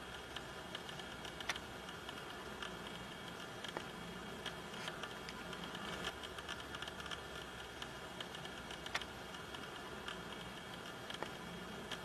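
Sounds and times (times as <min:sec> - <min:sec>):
small irregular clicks: 0:00.0 - 0:12.0.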